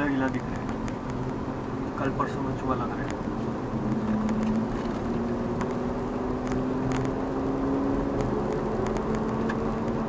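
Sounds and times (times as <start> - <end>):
car engine hum: 0.0 - 10.0
road noise: 0.0 - 10.0.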